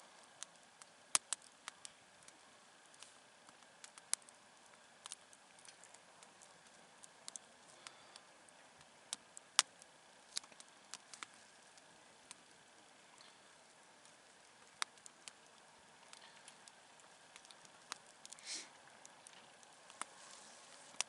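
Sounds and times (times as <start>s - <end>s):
campfire crackling: 0.0s - 21.0s
faint steady hiss: 0.0s - 21.0s.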